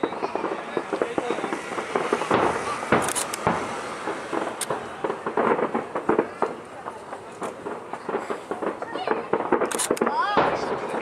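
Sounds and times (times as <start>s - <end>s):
crowd voices: 0.0s - 11.0s
distant fireworks bangs and crackles: 0.0s - 11.0s.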